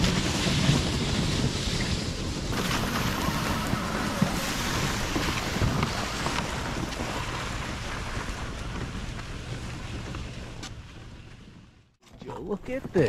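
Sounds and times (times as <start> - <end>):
wind buffeting microphone: 0.0 - 11.7
sleds scraping over grass and snow: 0.0 - 13.0.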